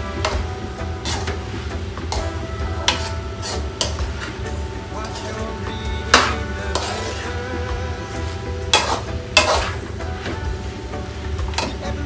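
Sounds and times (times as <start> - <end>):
light sizzling: 0.0 - 12.0
spatula scraping a pan: 0.0 - 12.0
spatula stirring in a wok: 0.0 - 12.0.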